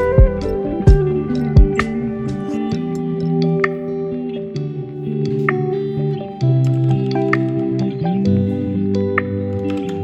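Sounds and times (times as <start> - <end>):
gentle plucked guitar music: 0.0 - 10.0.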